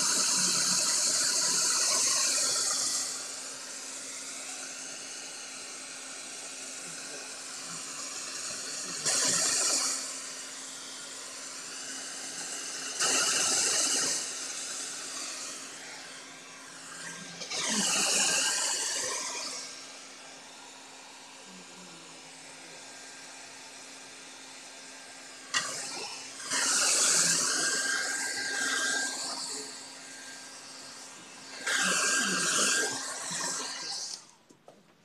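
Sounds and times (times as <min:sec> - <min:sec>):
hair dryer blowing: 0:00.0 - 0:34.5.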